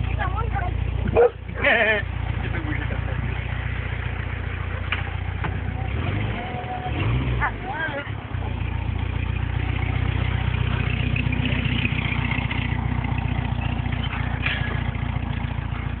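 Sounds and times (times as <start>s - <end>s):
dune buggy engine idling: 0.0s - 16.0s.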